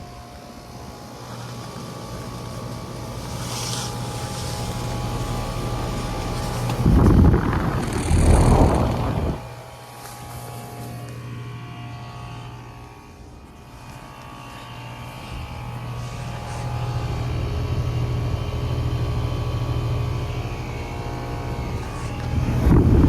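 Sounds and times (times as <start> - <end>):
heat pump humming: 0.0 - 23.0.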